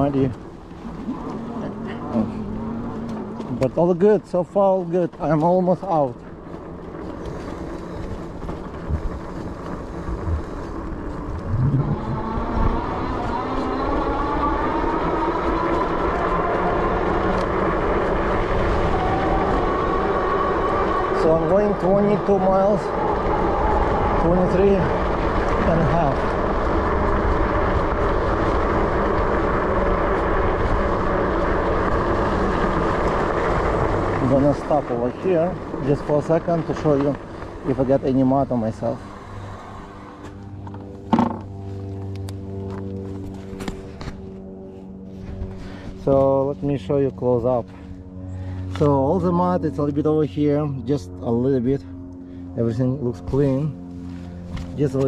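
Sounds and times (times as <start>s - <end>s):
electric bike riding noise: 0.0s - 55.0s
rising whine: 0.0s - 55.0s
wind and tyre rumble: 0.0s - 55.0s.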